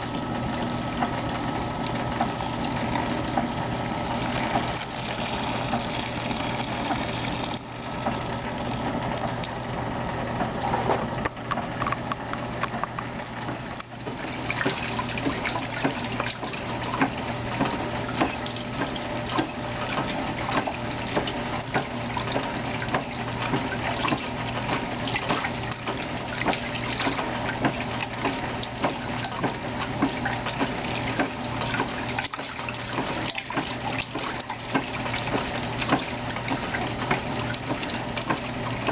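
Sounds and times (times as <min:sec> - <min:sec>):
wringer rollers squeezing clothes: 0:00.0 - 0:09.4, 0:13.1 - 0:38.9
washing machine motor hum: 0:00.0 - 0:38.9
water sloshing and splashing: 0:00.0 - 0:38.9.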